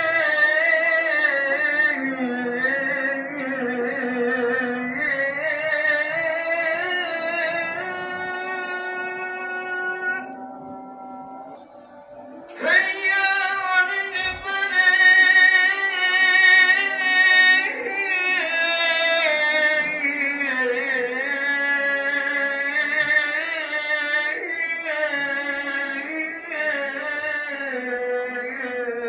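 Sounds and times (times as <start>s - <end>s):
music with sustained singing: 0.0s - 29.0s.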